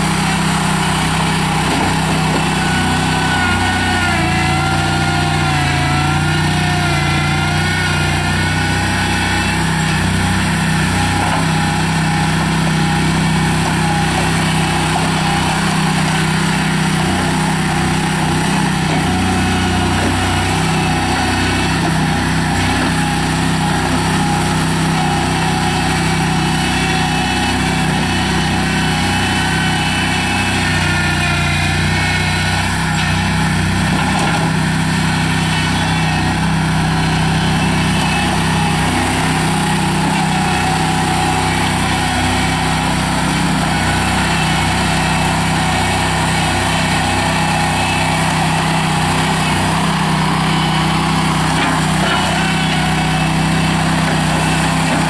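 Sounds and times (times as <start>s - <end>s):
engine running: 0.0s - 55.0s
loader bucket digging dirt: 0.0s - 55.0s.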